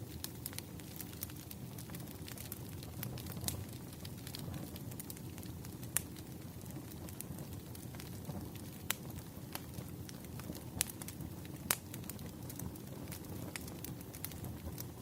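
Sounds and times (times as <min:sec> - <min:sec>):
fire pops and snaps: 0:00.0 - 0:15.0
low rumble of flames: 0:00.0 - 0:15.0
wood fire crackling: 0:00.0 - 0:15.0.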